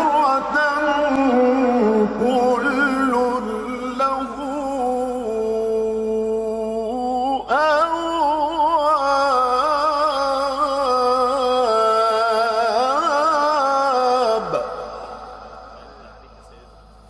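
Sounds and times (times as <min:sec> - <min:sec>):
man reciting in melodic chant: 0:00.0 - 0:17.0.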